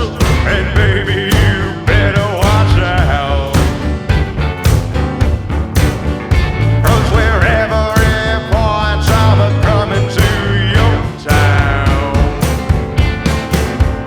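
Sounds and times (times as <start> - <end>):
bass: 0.0 - 14.0
country rock music: 0.0 - 14.0
drum beat: 0.0 - 14.0.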